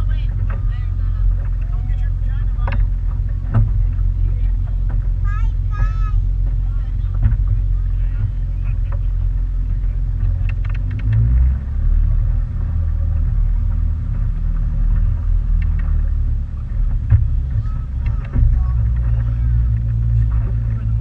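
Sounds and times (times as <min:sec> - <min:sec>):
motorboat engine rumble: 0:00.0 - 0:21.0.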